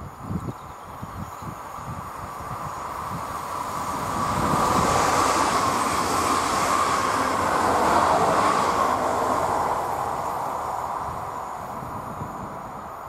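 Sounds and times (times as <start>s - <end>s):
train wheels on rails passing: 1.5s - 13.0s.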